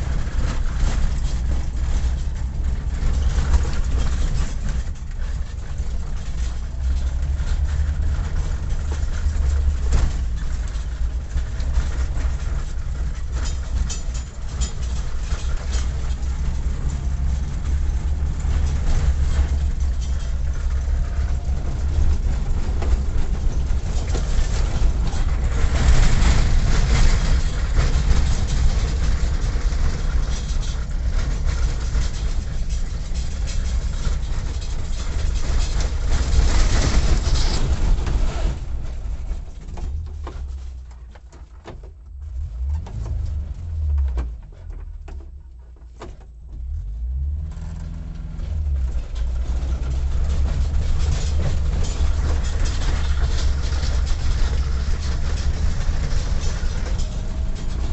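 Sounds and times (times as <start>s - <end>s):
vehicle rumble: 0.0s - 57.9s.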